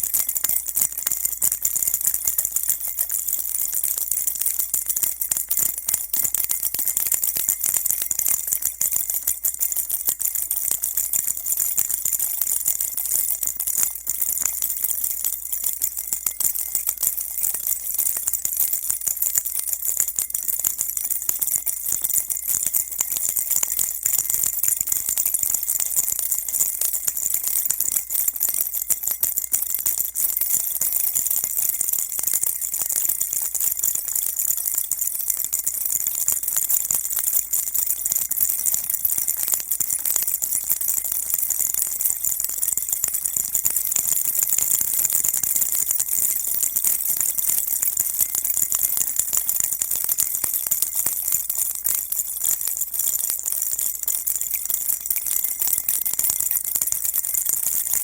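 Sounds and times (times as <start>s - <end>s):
baby rattle shaking: 0.0s - 54.0s.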